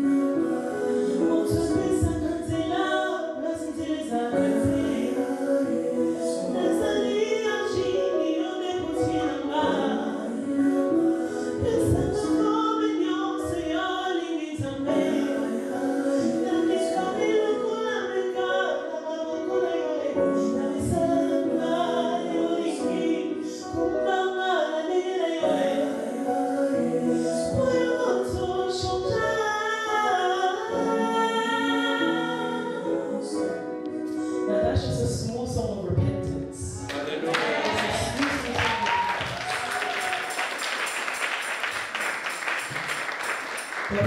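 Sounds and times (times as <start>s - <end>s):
gospel singing: 0.0s - 44.0s
musical accompaniment: 0.0s - 44.0s.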